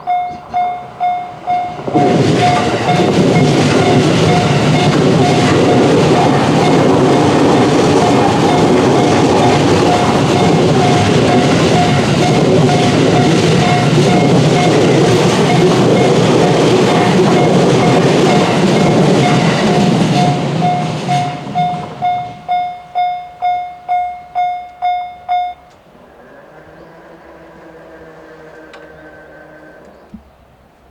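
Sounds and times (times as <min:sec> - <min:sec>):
crossing warning bell: 0:00.0 - 0:25.9
train passing: 0:00.0 - 0:30.9.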